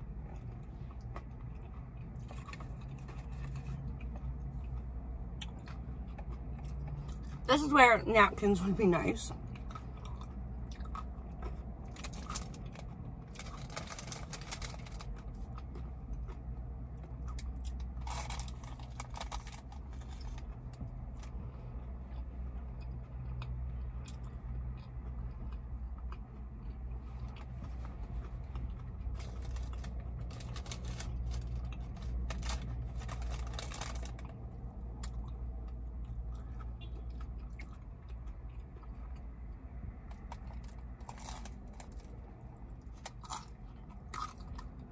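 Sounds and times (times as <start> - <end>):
chewing and biting food: 0.0 - 7.5, 9.3 - 44.9
low hum in car cabin: 0.0 - 44.9.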